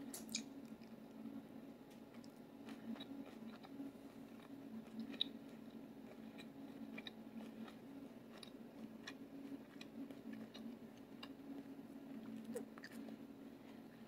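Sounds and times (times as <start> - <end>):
steady low hum: 0.0 - 14.0
person chewing crunchy salad: 2.1 - 14.0.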